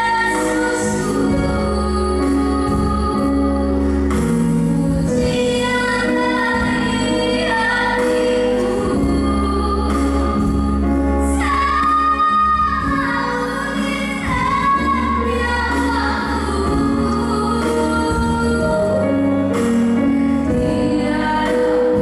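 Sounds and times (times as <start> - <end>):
woman singing slow song: 0.0 - 19.3, 20.4 - 22.0
instrumental accompaniment with bass: 0.0 - 22.0.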